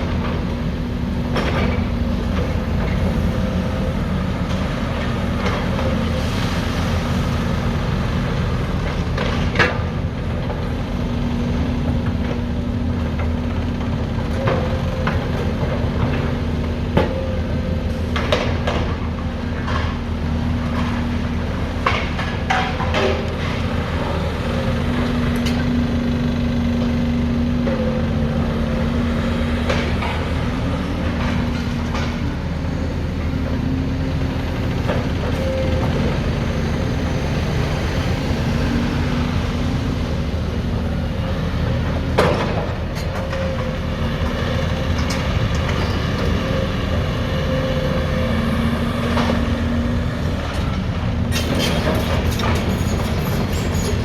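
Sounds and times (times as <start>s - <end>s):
large engine running: 0.0s - 54.0s.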